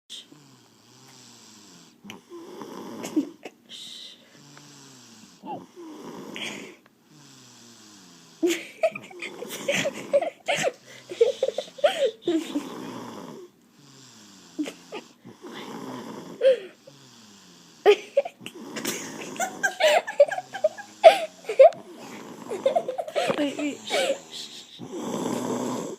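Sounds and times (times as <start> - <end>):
person snoring: 0.1 - 25.9.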